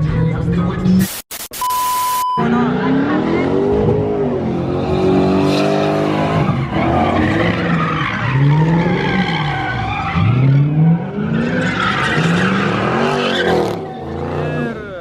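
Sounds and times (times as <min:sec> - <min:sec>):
car engine revving: 0:02.4 - 0:15.0
tires squealing: 0:02.4 - 0:15.0.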